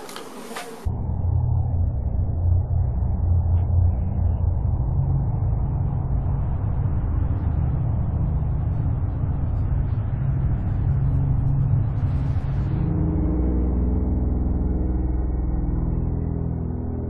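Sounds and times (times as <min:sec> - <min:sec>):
steady humming tones: 0:00.0 - 0:17.0
loud low rumble: 0:00.9 - 0:17.0.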